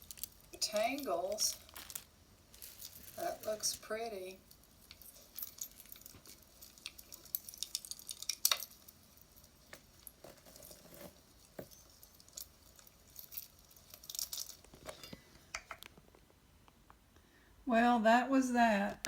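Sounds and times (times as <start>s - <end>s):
jewelry clicking and clinking: 0.0s - 15.9s.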